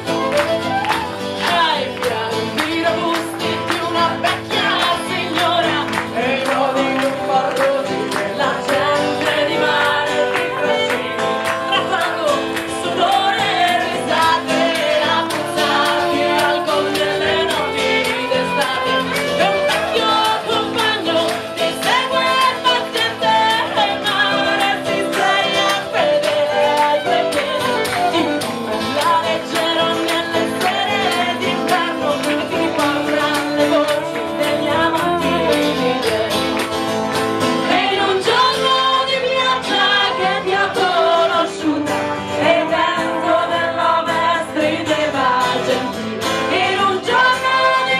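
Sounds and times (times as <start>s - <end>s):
fiddle: 0.0s - 42.8s
strummed acoustic guitar: 0.0s - 47.9s
women singing: 0.0s - 47.9s.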